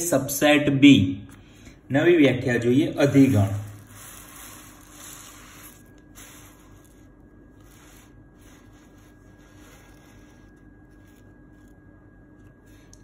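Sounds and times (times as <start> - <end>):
steady low hum: 0.0 - 13.0
thin high whine: 1.5 - 13.0.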